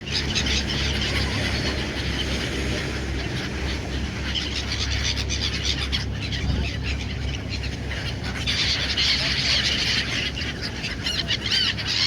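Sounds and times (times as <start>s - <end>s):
seagulls calling: 0.0s - 12.0s.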